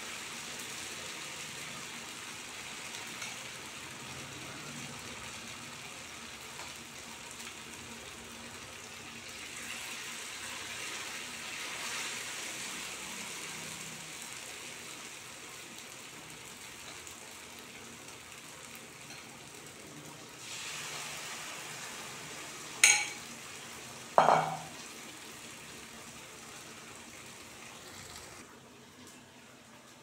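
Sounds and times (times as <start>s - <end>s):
oil sizzling in pan: 0.0s - 30.0s.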